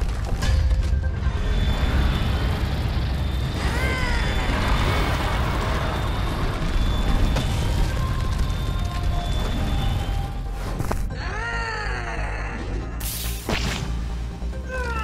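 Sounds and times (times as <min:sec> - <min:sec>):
cartoon background music: 0:00.4 - 0:15.0.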